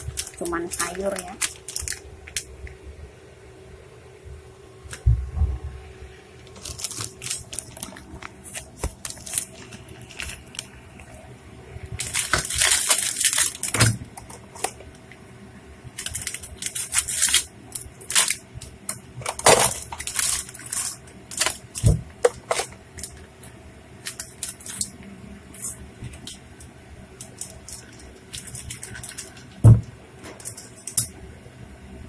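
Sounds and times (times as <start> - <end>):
plastic package crinkling and tearing: 0.0 - 2.7, 6.4 - 11.3, 12.0 - 15.0, 15.9 - 31.1.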